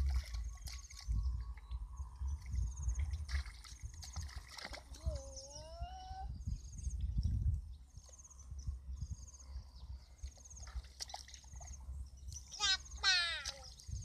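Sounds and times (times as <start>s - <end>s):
low rumbling wind: 0.0s - 14.0s.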